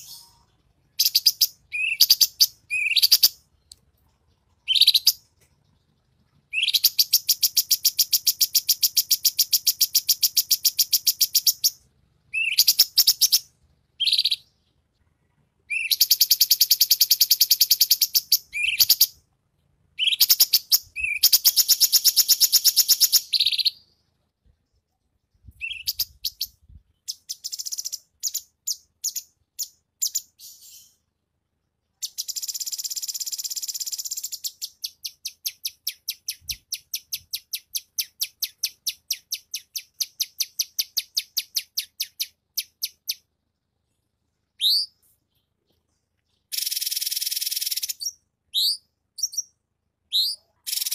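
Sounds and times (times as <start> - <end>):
songbird trilling and chirping: 0.0 - 19.2, 20.0 - 24.0, 24.7 - 31.0, 32.0 - 43.3, 44.6 - 45.6, 46.2 - 50.9.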